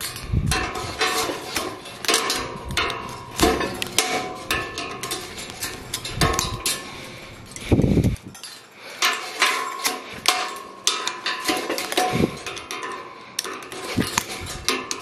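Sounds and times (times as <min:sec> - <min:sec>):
wire and pliers clinking on rebar: 0:00.0 - 0:15.0.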